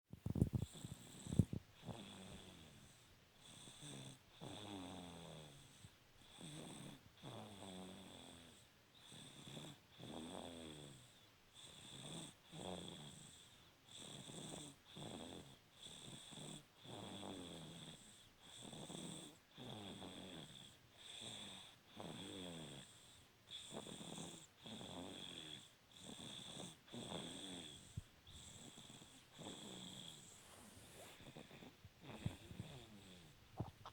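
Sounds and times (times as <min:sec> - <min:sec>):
rasping snoring: 0:00.3 - 0:33.9.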